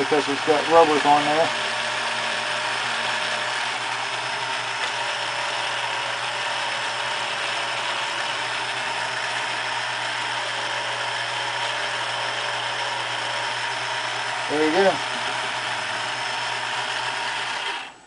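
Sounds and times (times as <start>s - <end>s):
model train motor running: 0.0s - 18.0s.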